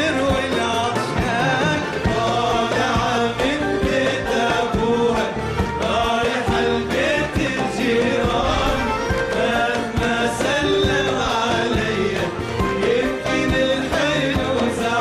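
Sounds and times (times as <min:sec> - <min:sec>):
instrumental accompaniment: 0:00.0 - 0:15.0
man singing: 0:00.0 - 0:15.0
drum strikes: 0:00.3 - 0:13.7.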